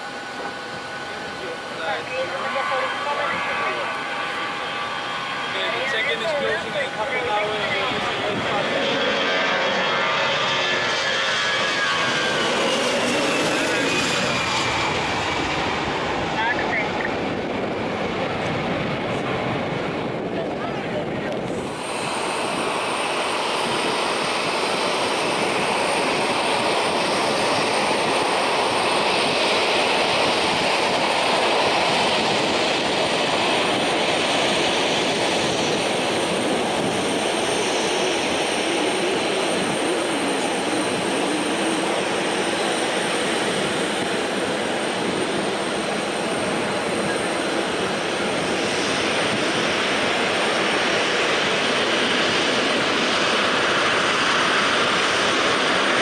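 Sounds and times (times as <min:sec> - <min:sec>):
faint high engine whine: 0:00.0 - 0:56.0
jet engines rushing: 0:00.0 - 0:56.0.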